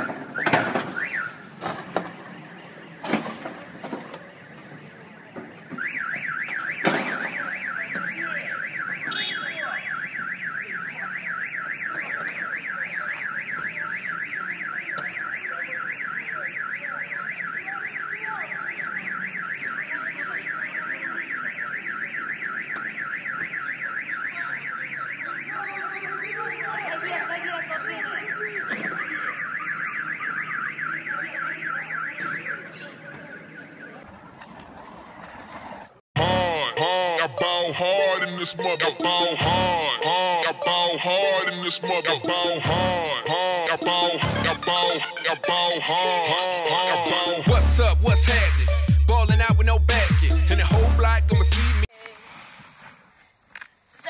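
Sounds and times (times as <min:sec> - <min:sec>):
car alarm warbling: 0:00.0 - 0:01.5, 0:05.7 - 0:35.2, 0:35.9 - 0:51.9.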